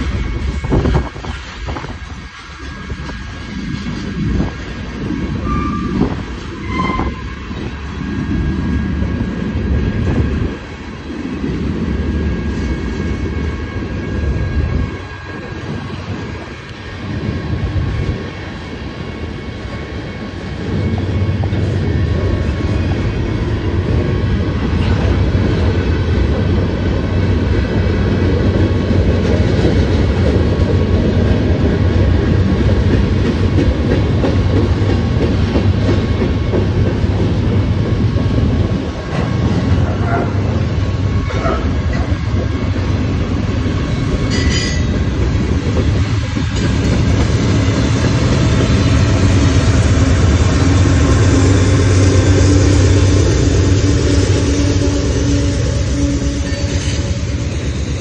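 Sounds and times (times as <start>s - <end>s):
diesel locomotive drone: 0.0s - 58.0s
train wheels rumbling over rails: 0.0s - 58.0s.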